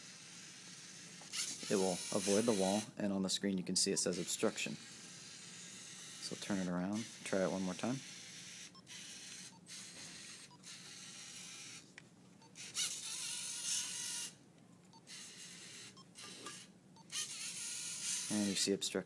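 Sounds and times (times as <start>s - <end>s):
robot servo motors whirring: 0.0s - 2.9s, 4.1s - 11.8s, 12.6s - 14.4s, 15.1s - 18.7s.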